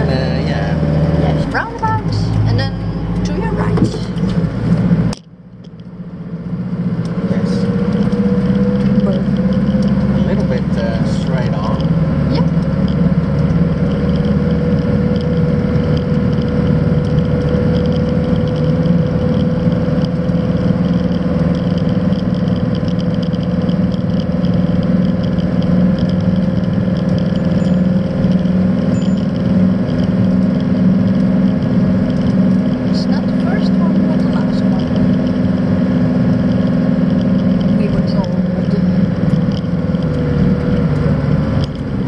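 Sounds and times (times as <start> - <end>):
engine drone through broken exhaust: 0.0 - 42.0.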